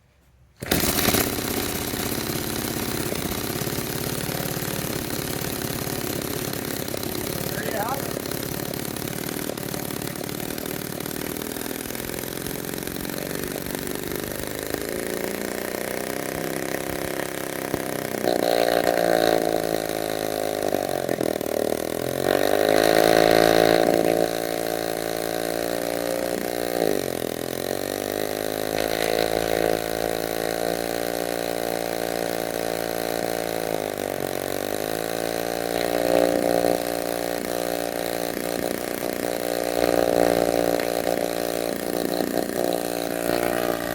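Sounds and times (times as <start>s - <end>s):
chainsaw engine revving: 0.6s - 43.9s.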